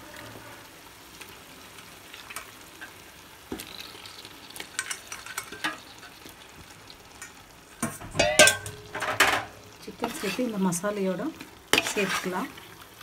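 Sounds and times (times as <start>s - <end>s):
sauce sizzling in metal pot: 0.0s - 13.0s.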